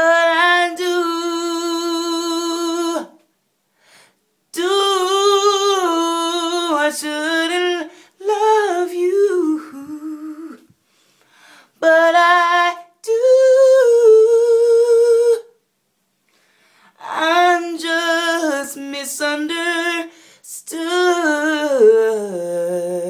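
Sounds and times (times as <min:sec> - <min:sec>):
woman singing a cappella: 0:00.0 - 0:03.3, 0:04.5 - 0:10.8, 0:11.8 - 0:15.6, 0:16.9 - 0:23.0.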